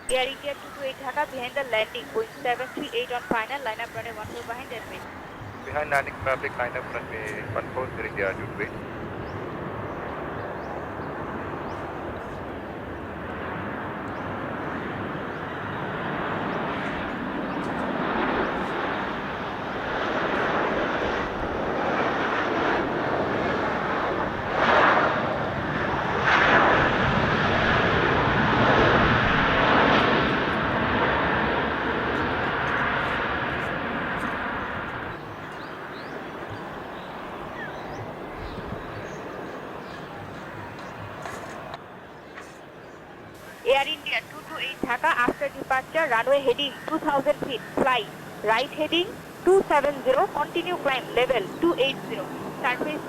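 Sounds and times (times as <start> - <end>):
jet airliner engine rush: 0.0 - 41.8, 43.4 - 53.0.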